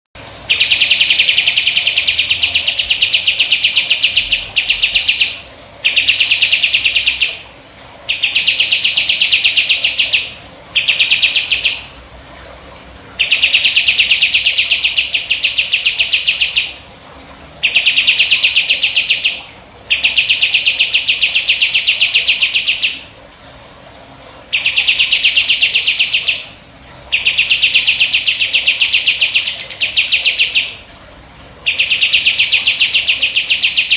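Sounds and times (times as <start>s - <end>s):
bird singing rapid trill: 0.5s - 7.4s, 8.1s - 11.9s, 13.2s - 16.8s, 17.6s - 23.0s, 24.5s - 26.4s, 27.1s - 30.8s, 31.6s - 33.9s.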